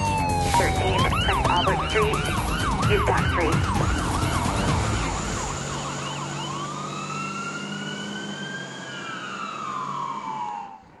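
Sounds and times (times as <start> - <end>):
fire truck siren: 0.0 - 11.0.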